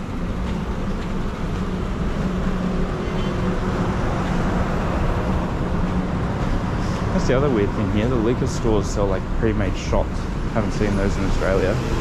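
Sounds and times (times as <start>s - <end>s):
street traffic noise: 0.0s - 12.0s
vehicle engine humming nearby: 0.0s - 12.0s.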